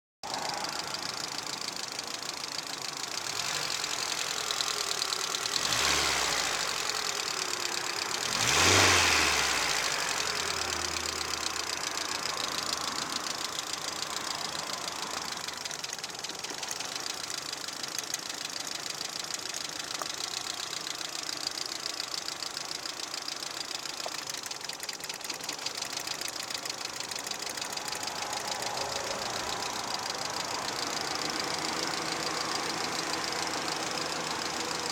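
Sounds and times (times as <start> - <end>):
engine revving: 0.3 - 34.9
car engine idling with knock: 0.6 - 34.9.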